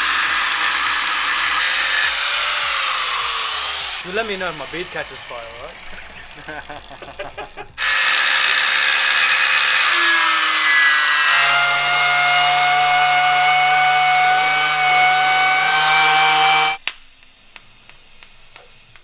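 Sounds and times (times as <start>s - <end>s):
cut-off wheel cutting metal pipe: 0.0s - 7.2s, 7.8s - 16.8s.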